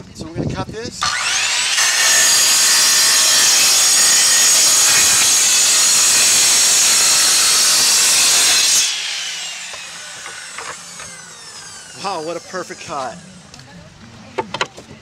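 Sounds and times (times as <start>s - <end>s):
circular saw cutting concrete tile: 1.0s - 13.2s
saw blade winding down: 1.0s - 13.4s.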